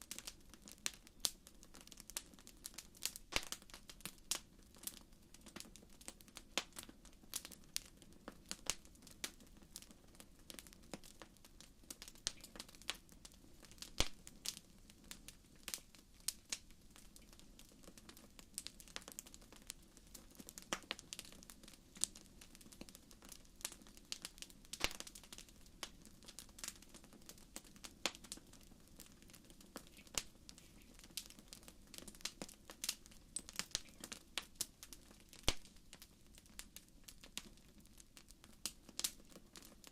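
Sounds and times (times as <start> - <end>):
faint low hiss: 0.0 - 39.9
wood fire crackling and popping: 0.0 - 39.9.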